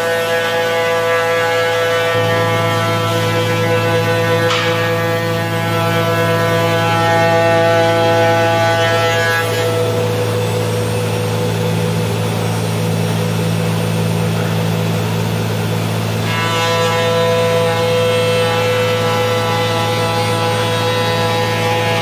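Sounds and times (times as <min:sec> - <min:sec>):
high spindle whine: 0:00.0 - 0:22.0
low machine hum: 0:00.0 - 0:22.0
rough router cutting noise: 0:00.0 - 0:22.0.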